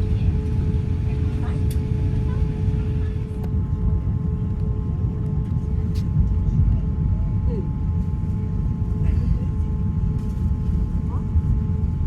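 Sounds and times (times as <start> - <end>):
aircraft cabin rumble: 0.0 - 12.0
aircraft engine hums: 0.0 - 12.0.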